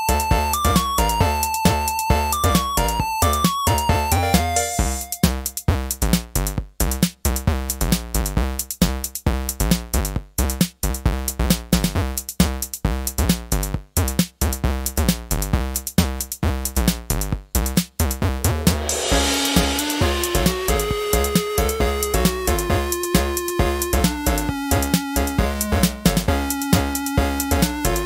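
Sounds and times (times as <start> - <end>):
electronic music with drum-machine beat: 0.0 - 6.2, 6.9 - 28.0.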